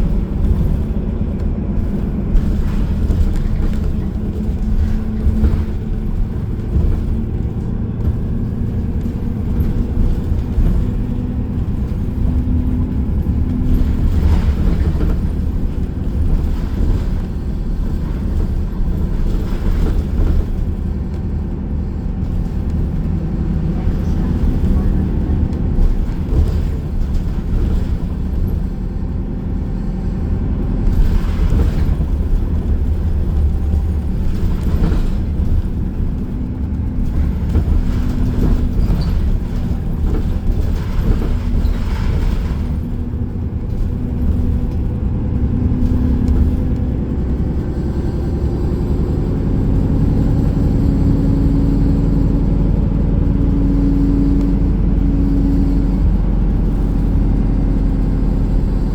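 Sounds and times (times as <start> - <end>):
bus drivetrain and road rumble: 0.0 - 58.9.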